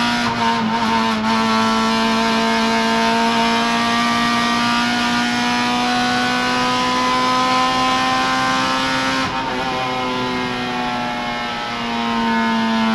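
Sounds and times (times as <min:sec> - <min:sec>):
car engine at high revs: 0:00.0 - 0:12.9.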